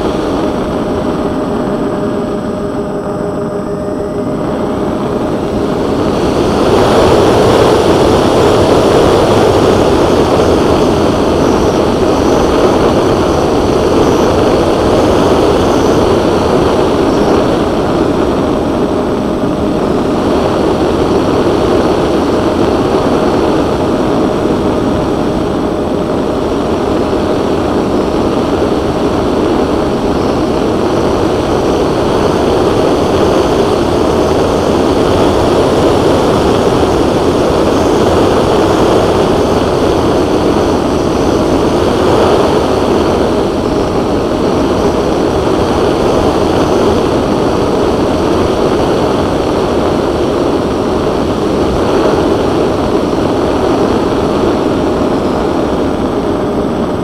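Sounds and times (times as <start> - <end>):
electric motor whine: 0.0 - 57.0
wind and spinning propellers: 0.0 - 57.0.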